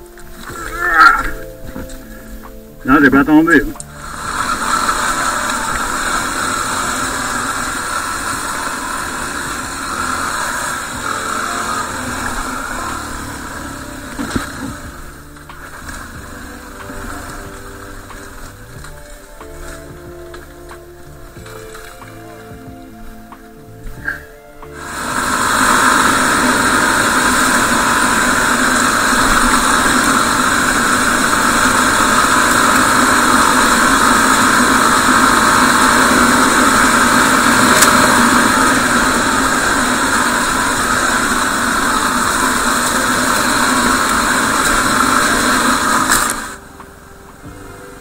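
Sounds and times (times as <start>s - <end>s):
faint music: 0.0s - 48.0s
motorcycle engine running: 0.0s - 48.0s.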